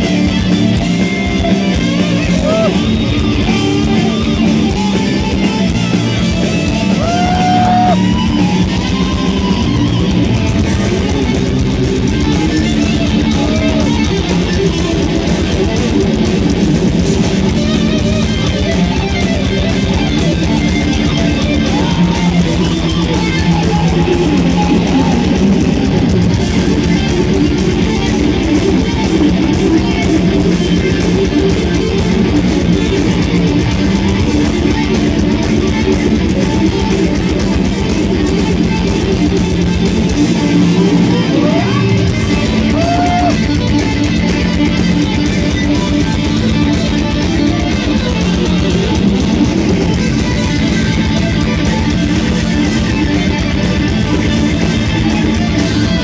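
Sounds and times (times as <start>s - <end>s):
metal band playing live: 0.0s - 56.0s.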